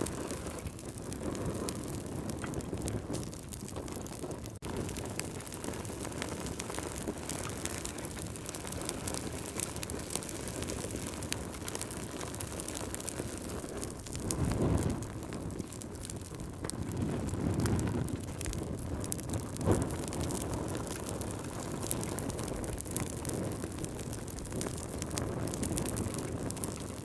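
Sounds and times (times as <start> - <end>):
wood fire crackling and hissing: 0.0 - 27.0.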